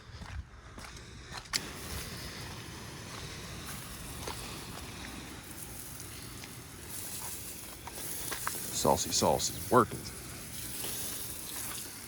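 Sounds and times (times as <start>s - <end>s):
hiss of liquid spraying from hose: 1.6s - 12.0s.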